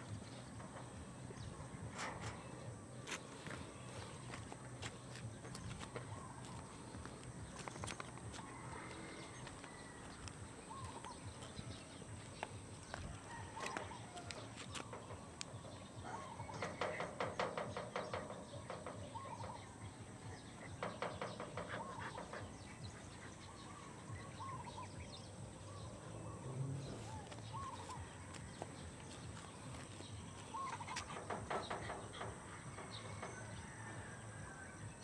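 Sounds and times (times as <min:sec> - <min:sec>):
birds chirping: 0:00.0 - 0:35.0
birds clucking: 0:00.0 - 0:35.0.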